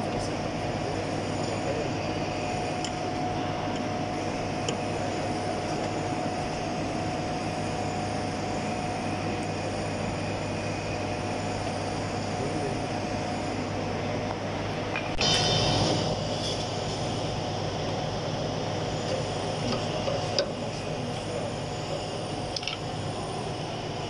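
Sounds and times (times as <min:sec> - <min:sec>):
constant tone: 0:00.0 - 0:24.0
workshop machinery hum: 0:00.0 - 0:24.0.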